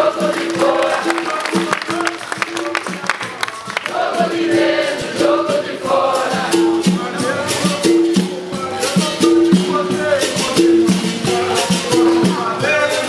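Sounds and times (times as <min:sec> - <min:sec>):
berimbaus playing: 0:00.0 - 0:13.0
group singing: 0:00.0 - 0:13.0
shakers rattling: 0:00.0 - 0:13.0.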